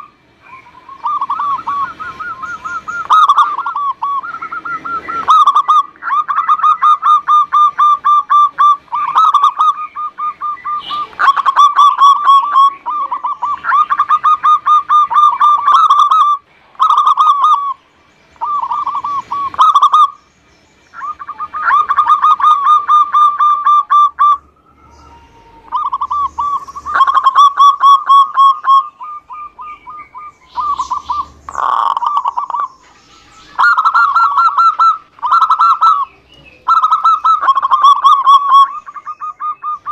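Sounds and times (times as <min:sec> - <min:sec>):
dove cooing: 0:00.0 - 0:17.8, 0:18.4 - 0:20.2, 0:21.0 - 0:39.9.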